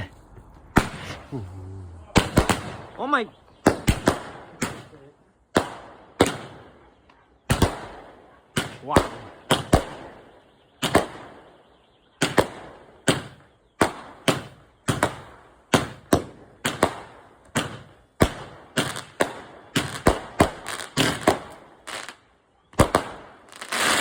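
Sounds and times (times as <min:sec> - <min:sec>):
firework bangs with echo: 0:00.6 - 0:01.3, 0:02.1 - 0:06.8, 0:07.5 - 0:11.6, 0:12.2 - 0:22.2, 0:22.8 - 0:24.0.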